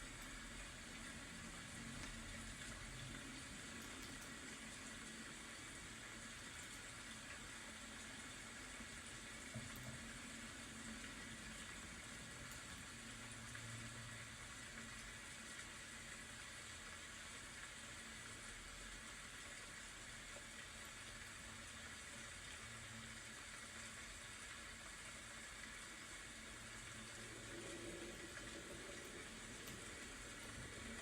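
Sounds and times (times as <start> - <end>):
faint rain hiss: 0.0 - 31.0.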